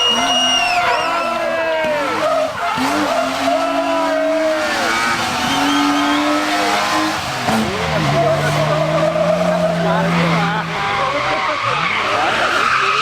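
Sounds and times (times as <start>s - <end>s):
car engine revving hard: 0.0s - 13.0s
tyres squealing: 0.0s - 13.0s.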